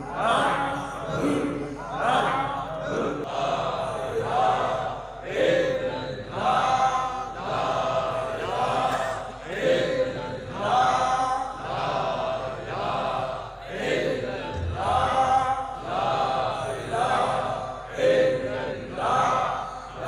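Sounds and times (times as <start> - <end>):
men chanting: 0.0 - 20.0.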